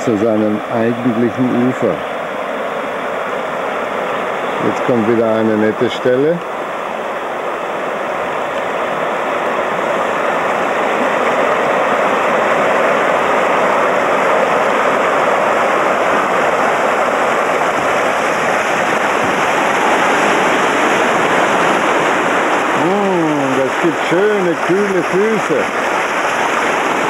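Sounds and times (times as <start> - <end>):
river water rushing over rocks: 0.0 - 27.0.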